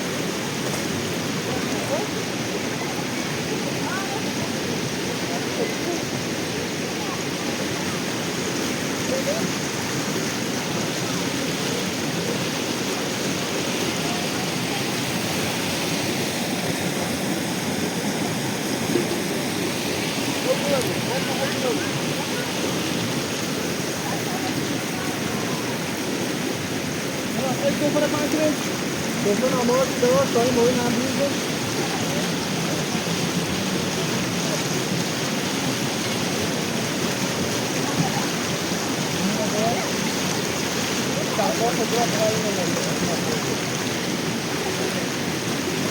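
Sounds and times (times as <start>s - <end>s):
river water rushing: 0.0s - 45.9s
faint voices: 0.1s - 45.9s.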